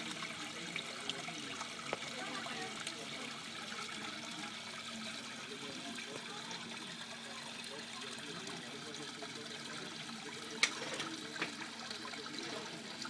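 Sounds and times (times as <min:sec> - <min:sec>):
waterfall splashing into pond: 0:00.0 - 0:13.0.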